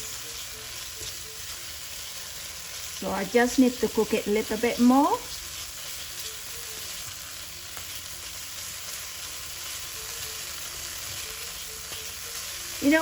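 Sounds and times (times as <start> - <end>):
paste sizzling in oil: 0.0 - 13.0.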